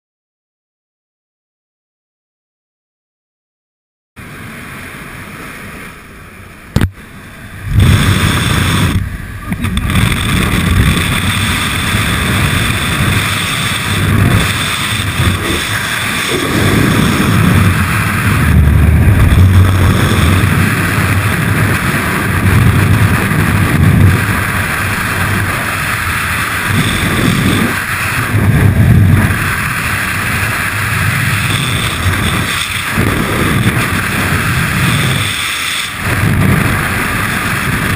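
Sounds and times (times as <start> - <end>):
loud wind rushing over microphone: 4.2 - 37.9
aircraft cabin noise: 4.6 - 37.9.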